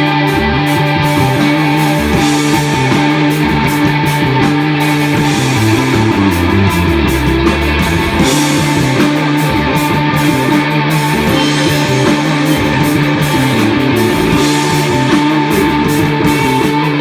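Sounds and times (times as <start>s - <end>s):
bass line: 0.0s - 17.0s
electric guitar sustained notes: 0.0s - 17.0s.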